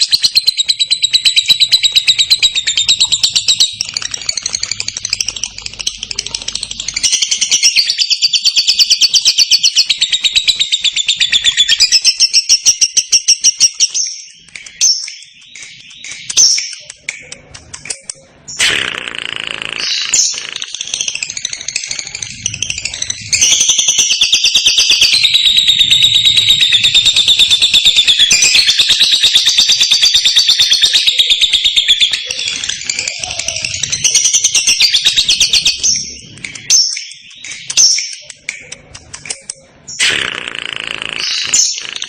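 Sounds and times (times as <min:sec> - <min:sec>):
lovebird chattering trill: 0:00.0 - 0:42.0.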